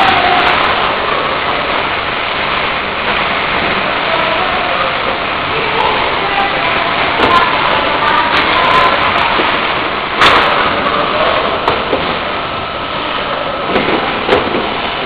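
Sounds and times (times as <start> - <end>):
packaging line mechanical din: 0.0 - 15.0.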